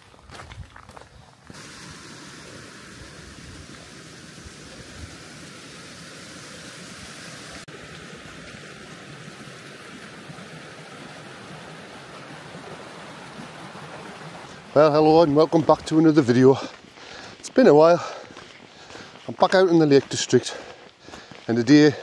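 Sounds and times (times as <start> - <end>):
stream rushing over stones: 1.5 - 20.4.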